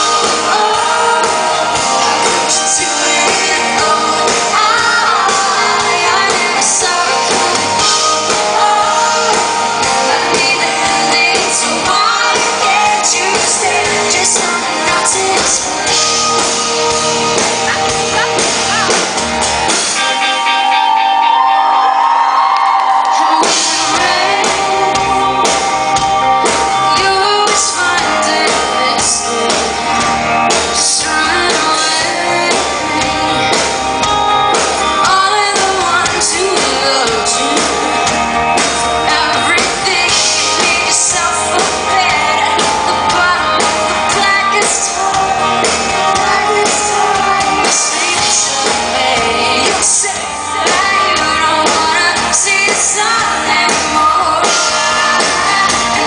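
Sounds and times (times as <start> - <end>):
live rock band playing: 0.0 - 56.0
woman singing lead vocals: 0.0 - 56.0.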